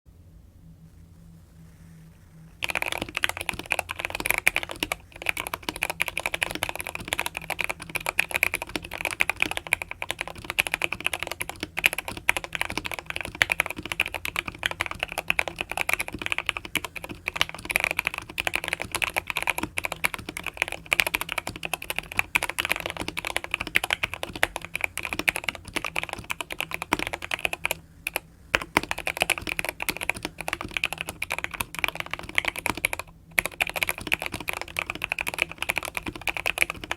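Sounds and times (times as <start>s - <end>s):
mechanical keyboard typing: 2.6s - 36.9s.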